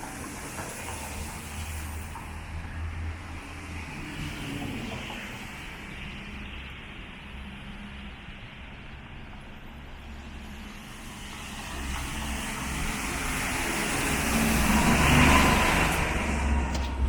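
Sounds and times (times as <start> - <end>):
car approaching on wet street: 0.0 - 17.0.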